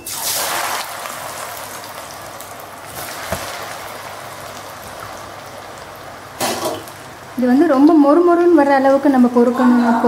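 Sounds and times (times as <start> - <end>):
food deep-frying in hot oil: 0.0 - 9.3.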